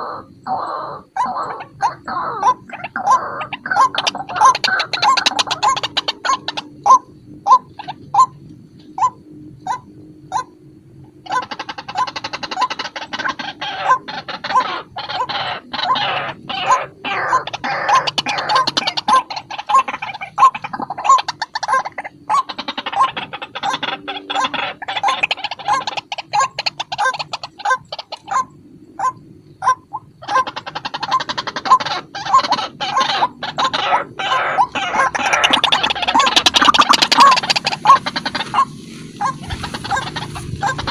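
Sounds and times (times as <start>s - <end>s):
waterhen calling: 0.0s - 8.4s, 9.0s - 10.5s, 11.2s - 40.9s.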